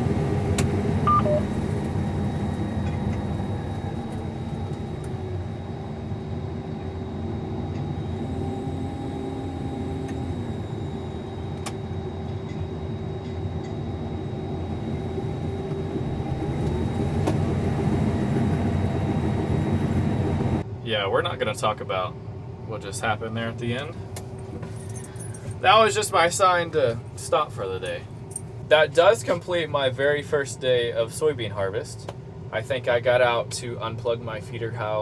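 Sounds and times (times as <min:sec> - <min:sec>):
combine harvester drone: 0:00.0 - 0:24.8, 0:25.4 - 0:35.0
high machine whine: 0:00.0 - 0:35.0.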